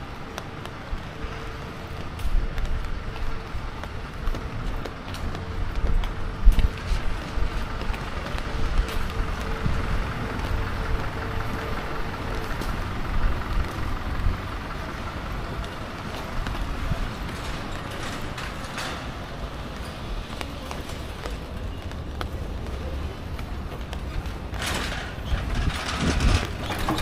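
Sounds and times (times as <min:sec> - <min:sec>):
traffic background hum: 0:00.0 - 0:27.0
vehicle rumbling by: 0:00.0 - 0:27.0.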